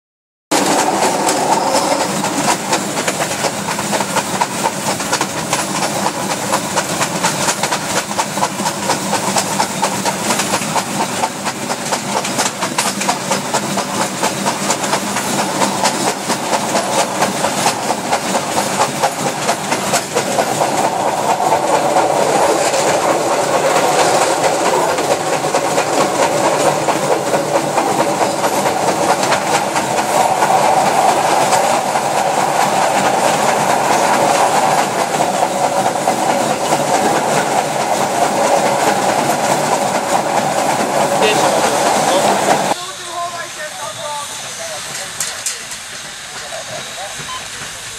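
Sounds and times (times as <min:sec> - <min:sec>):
steam locomotive wheels clattering: 0:00.5 - 0:47.9.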